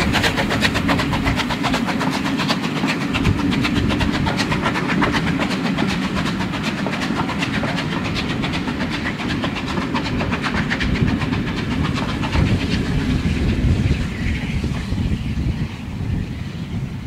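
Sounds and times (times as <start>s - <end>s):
train wheels clicking over rail joints: 0.0s - 16.2s
low train rumble: 0.0s - 17.0s.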